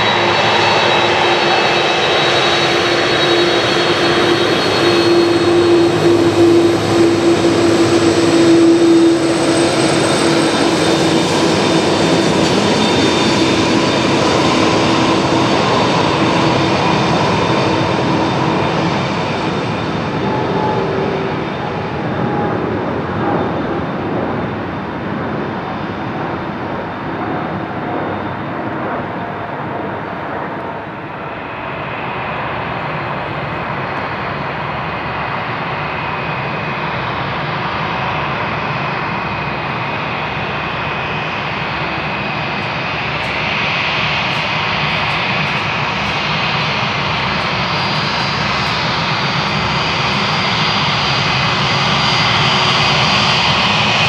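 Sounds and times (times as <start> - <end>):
high engine whine: 0.0 - 54.0
jet engine roar: 0.0 - 54.0.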